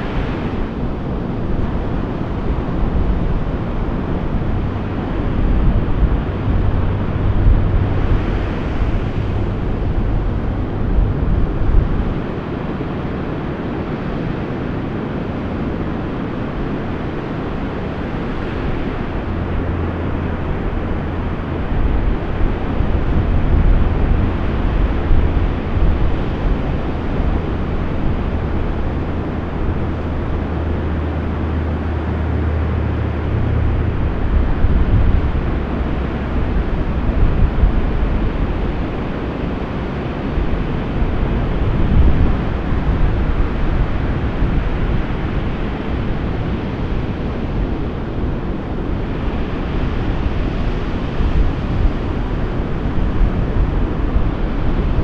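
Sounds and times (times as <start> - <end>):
ocean surf breaking: 0.0 - 55.0
wind rumble on microphone: 0.0 - 55.0.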